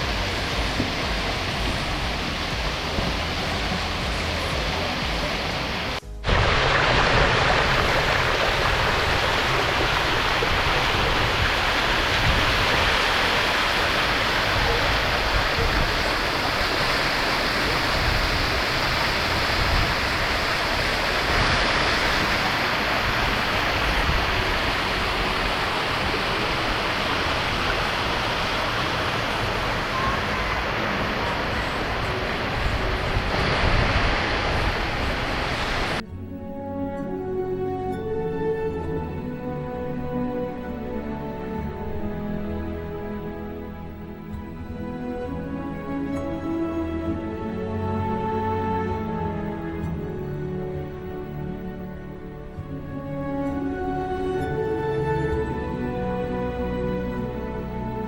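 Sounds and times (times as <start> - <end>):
music: 0.0 - 34.7, 36.0 - 58.0
waterfall rushing: 0.0 - 36.0, 38.1 - 58.0.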